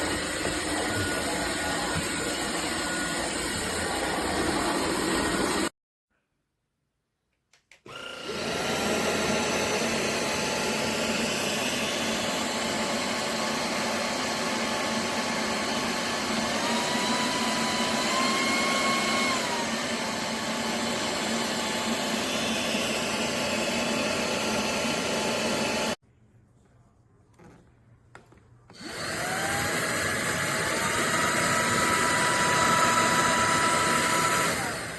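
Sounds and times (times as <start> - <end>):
stick vacuum motor whine: 0.0 - 5.7, 7.9 - 26.0, 28.7 - 34.9.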